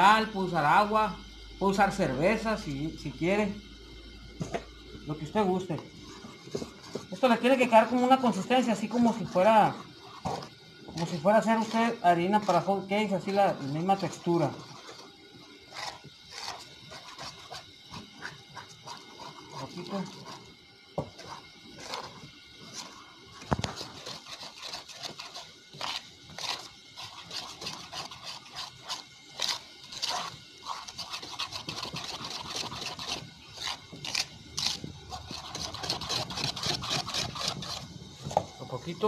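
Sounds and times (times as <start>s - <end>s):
spoon stirring batter in bowl: 4.2s - 15.1s, 15.7s - 38.6s.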